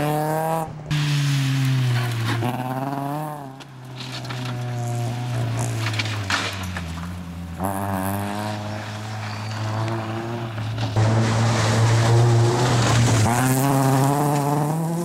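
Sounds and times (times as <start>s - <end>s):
rally car engine revving: 0.0s - 3.6s, 4.2s - 15.0s.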